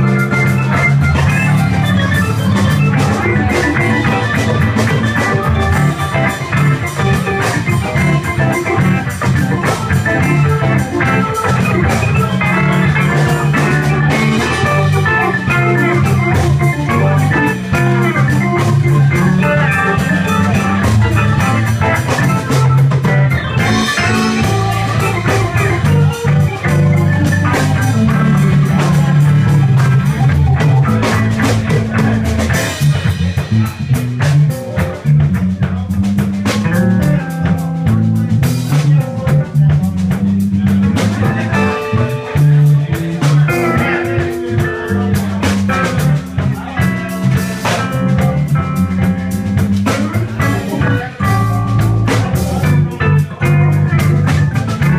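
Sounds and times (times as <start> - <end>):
drum kit: 0.0 - 54.9
electric bass guitar: 0.0 - 54.9
electric guitar: 0.0 - 54.9
keyboards: 0.0 - 54.9.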